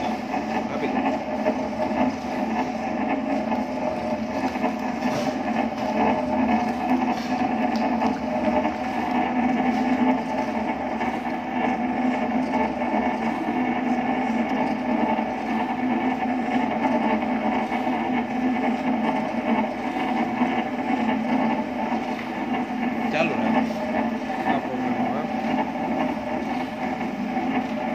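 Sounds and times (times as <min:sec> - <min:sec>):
mixer motor humming: 0:00.0 - 0:27.9
paddles churning powder: 0:00.0 - 0:27.9.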